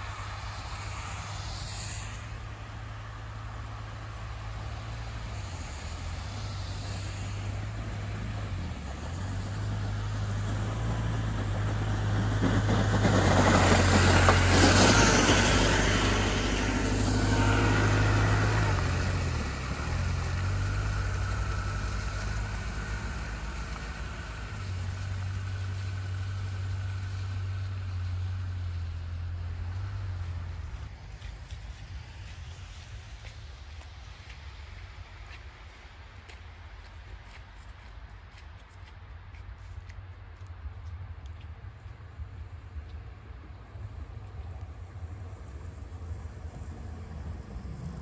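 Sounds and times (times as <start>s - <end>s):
bus tyres on snowy road: 0.0s - 48.0s
low engine hum: 0.0s - 48.0s.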